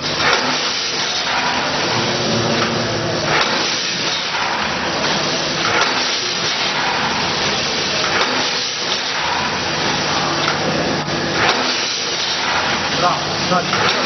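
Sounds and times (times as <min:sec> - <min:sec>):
machinery hissing: 0:00.0 - 0:14.0.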